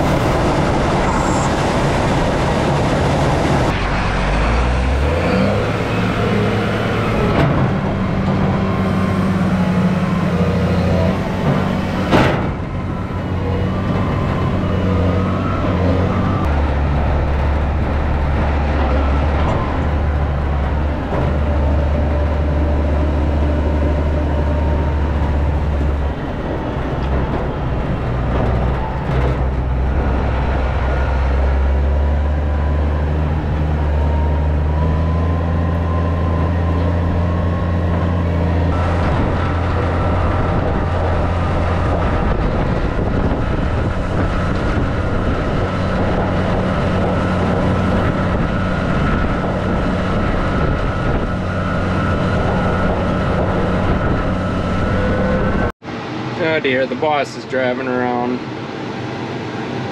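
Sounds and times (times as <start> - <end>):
farm machine engine droning: 0.0 - 59.9.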